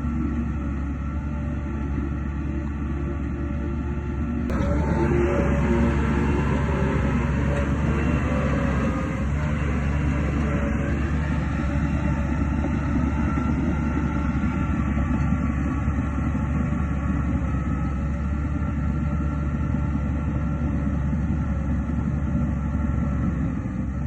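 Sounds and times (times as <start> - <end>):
heavy machinery diesel rumble: 0.0 - 24.0.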